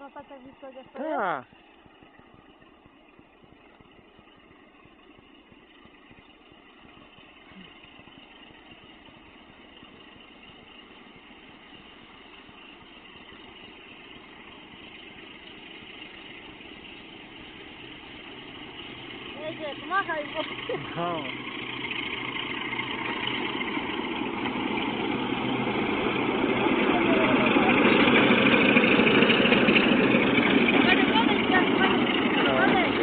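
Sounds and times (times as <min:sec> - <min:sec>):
train engine rumbling: 0:00.0 - 0:33.0.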